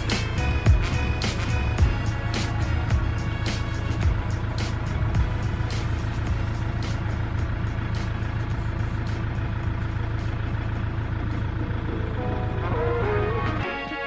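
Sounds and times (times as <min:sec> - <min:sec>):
motor vehicle rumble: 0:00.0 - 0:13.9
music: 0:00.0 - 0:14.0.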